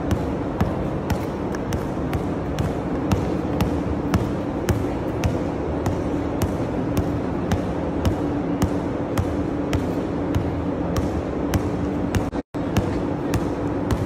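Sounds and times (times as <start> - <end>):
basketball bouncing on court floor: 0.0 - 14.0
steady hum: 0.0 - 14.0.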